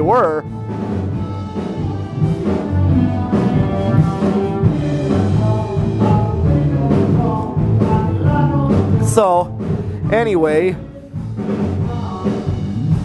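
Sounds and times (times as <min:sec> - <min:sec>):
band playing in next room: 0:00.0 - 0:13.0.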